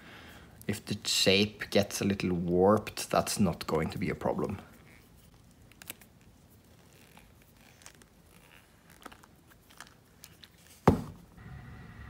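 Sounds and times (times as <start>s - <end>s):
rubber mold peeling with rustling: 1.4s - 11.3s.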